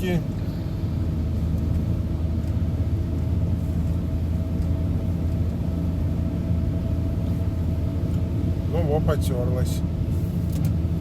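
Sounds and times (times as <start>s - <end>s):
van engine and road drone: 0.0s - 11.0s.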